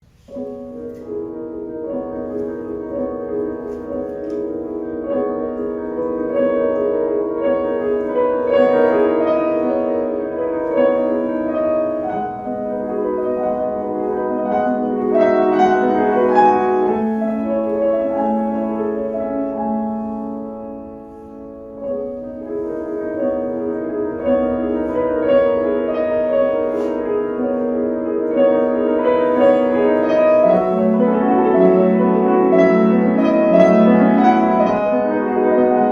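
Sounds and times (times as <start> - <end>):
solo piano: 0.0 - 35.9.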